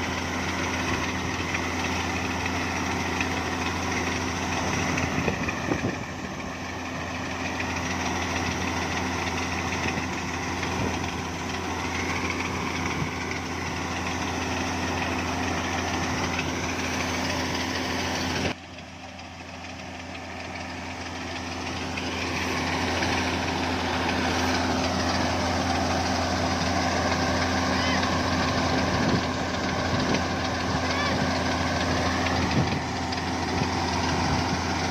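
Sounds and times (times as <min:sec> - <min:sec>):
farm machinery engine running: 0:00.0 - 0:34.9.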